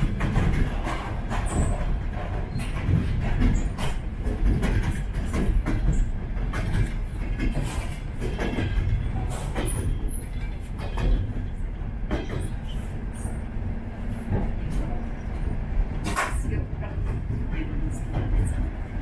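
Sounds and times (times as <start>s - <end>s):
train carriage rumbling: 0.0s - 19.0s.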